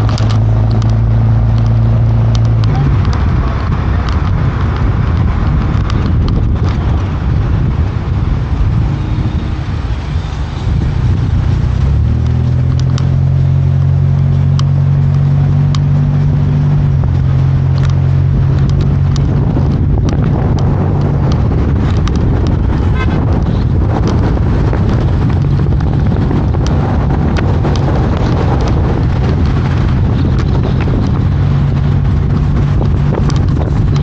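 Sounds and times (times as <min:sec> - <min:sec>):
low engine drone: 0:00.0 - 0:34.0
road and wind rumble: 0:00.0 - 0:34.0.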